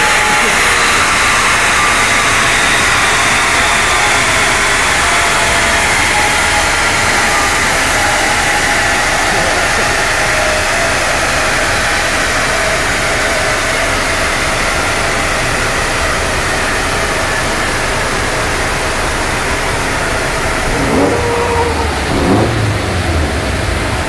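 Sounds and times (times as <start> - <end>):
car engine and dyno rollers rushing: 0.0 - 24.0.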